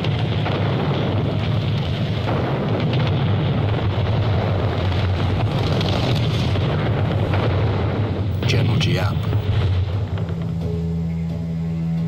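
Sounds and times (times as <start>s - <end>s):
artillery shell explosions rumbling: 0.0s - 10.6s.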